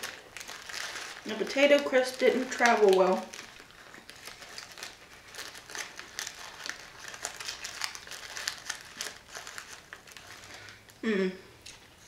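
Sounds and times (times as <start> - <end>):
plastic crisp packet crinkling: 0.0 - 11.0.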